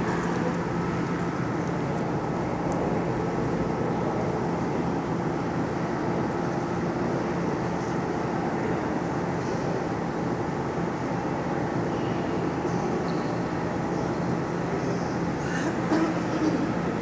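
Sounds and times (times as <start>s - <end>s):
indoor hall rumble: 0.0s - 17.0s
low machine hum: 0.0s - 17.0s.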